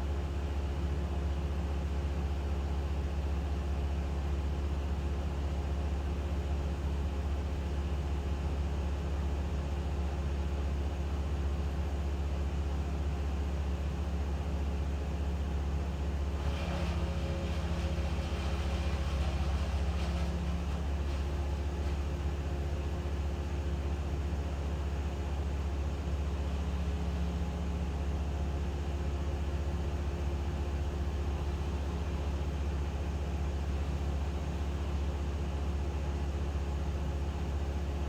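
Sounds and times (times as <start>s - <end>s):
engine running steadily: 1.3s - 38.0s.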